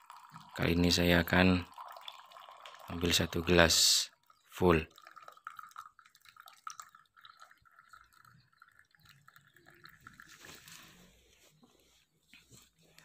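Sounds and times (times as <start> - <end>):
liquid trickling into a glass: 0.0 - 11.2
small drips: 0.0 - 13.0.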